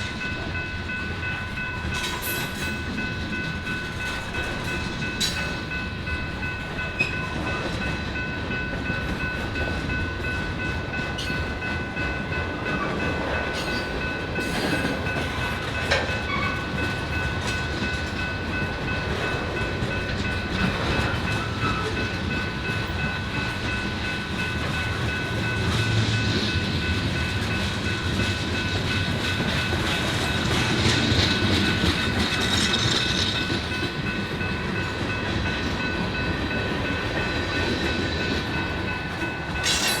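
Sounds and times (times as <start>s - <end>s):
train wheels rumbling and clacking: 0.0s - 40.0s.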